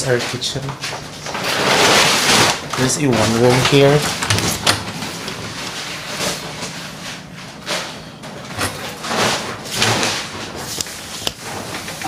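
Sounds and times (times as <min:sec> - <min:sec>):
bumps and rustling: 0:00.0 - 0:12.0.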